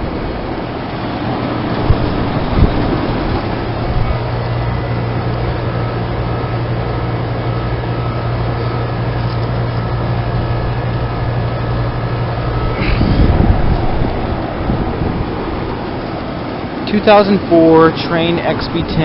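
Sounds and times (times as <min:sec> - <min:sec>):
compressor low hum: 0:00.0 - 0:19.0
condenser fans whooshing: 0:00.0 - 0:19.0.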